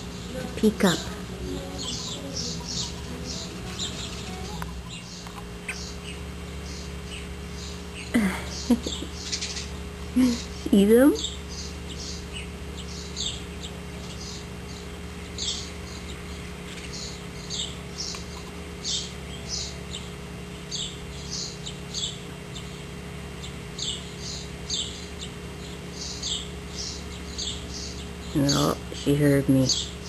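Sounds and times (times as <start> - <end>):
faint low hum: 0.0 - 30.0
bird chirping: 0.6 - 30.0.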